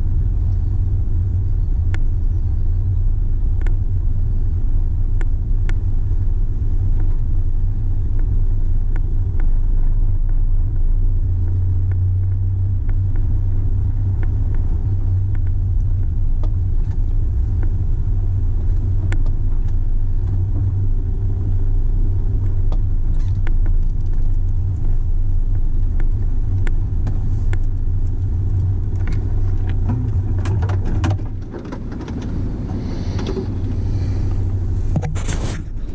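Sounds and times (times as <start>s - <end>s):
car engine and road rumble: 0.0s - 35.9s.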